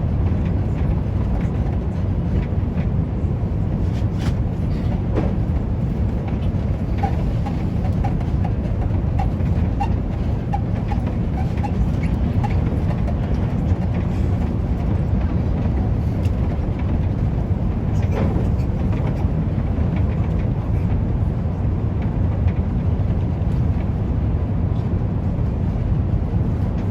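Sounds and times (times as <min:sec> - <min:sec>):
airplane cabin rumble: 0:00.0 - 0:26.9.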